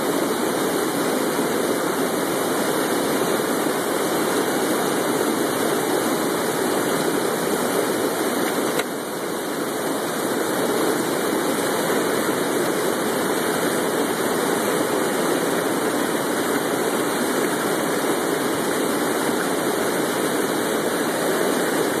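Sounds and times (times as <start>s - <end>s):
churning whitewater: 0.0s - 22.0s
water rushing over spillway: 0.0s - 22.0s.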